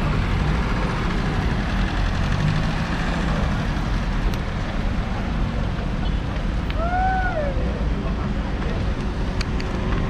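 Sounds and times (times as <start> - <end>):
car engines idling in traffic: 0.0 - 10.0.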